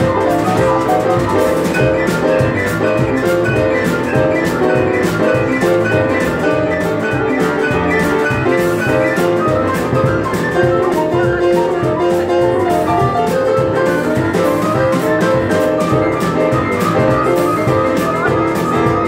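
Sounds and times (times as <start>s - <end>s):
boogie-woogie piano: 0.0s - 19.0s.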